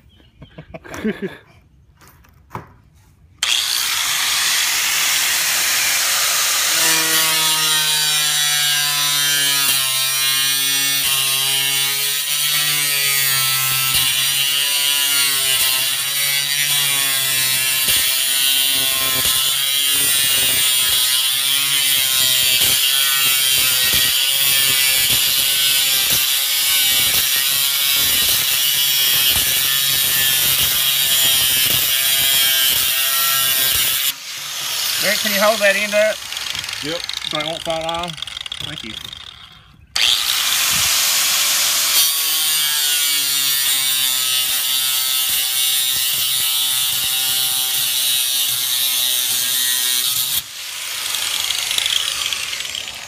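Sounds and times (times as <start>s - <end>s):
grinder cutting steel sheet: 3.4s - 53.0s.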